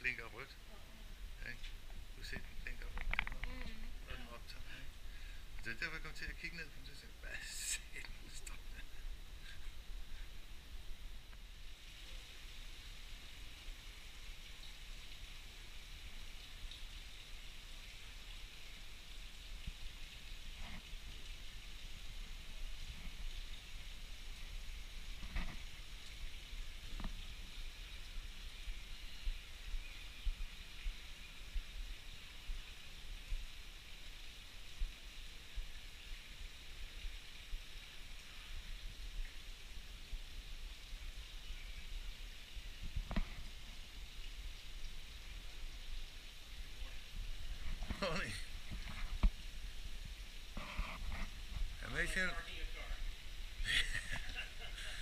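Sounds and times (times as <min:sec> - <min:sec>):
light rain hissing: 0:00.0 - 0:55.0.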